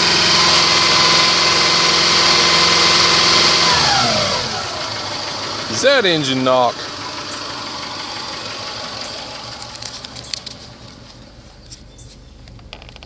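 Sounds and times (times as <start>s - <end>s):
car engine idling with ticking: 0.0s - 13.0s.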